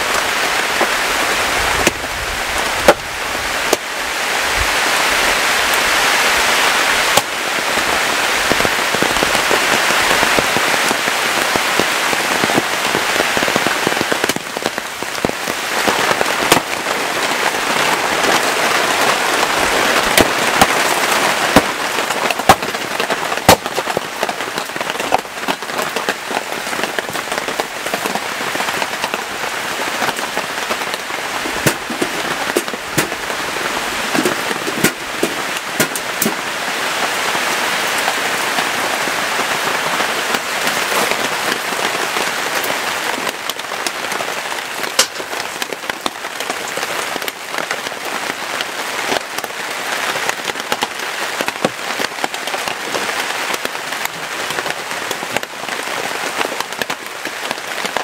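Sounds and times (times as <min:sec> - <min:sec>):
heavy rain on hard surface: 0:00.0 - 0:58.0.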